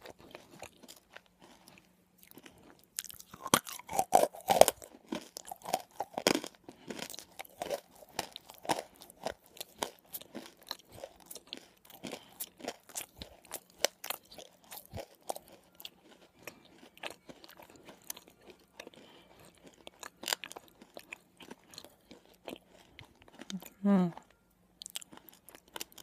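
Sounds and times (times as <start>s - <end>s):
crunching and chewing: 0.0s - 26.0s.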